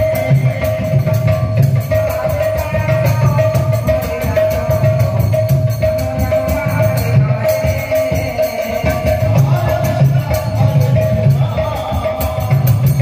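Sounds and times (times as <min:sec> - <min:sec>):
barrel drum beat: 0:00.0 - 0:13.0
jingling metal percussion: 0:00.0 - 0:13.0.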